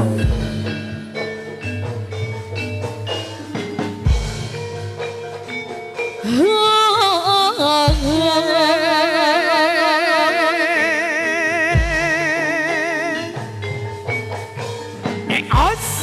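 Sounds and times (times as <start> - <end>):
steady held tones: 0.0 - 16.0.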